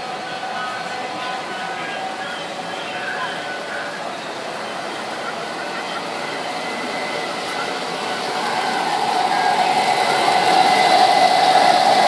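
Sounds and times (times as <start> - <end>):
model train rolling hum: 0.0 - 12.0.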